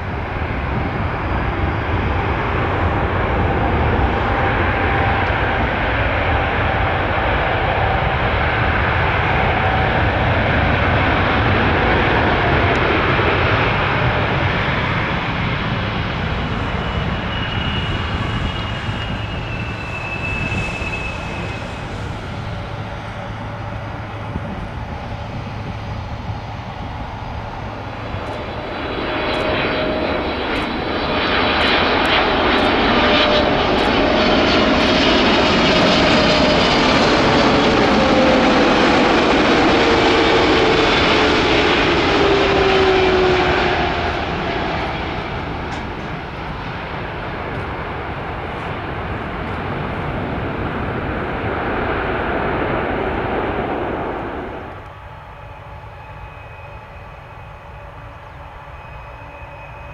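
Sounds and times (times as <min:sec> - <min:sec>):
jet engine whine sliding down: 0:00.0 - 0:59.9
jet engines landing: 0:00.0 - 0:59.9.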